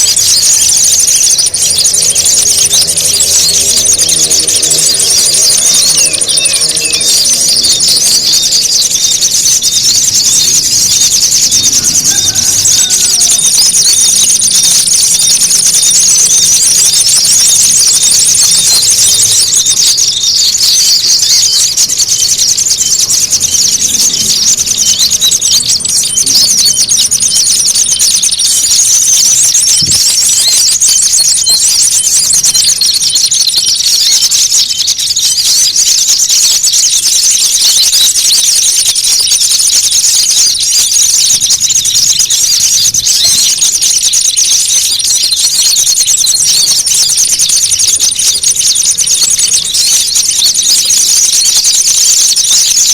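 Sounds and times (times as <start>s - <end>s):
songbirds chipping and trilling: 0.0s - 52.9s.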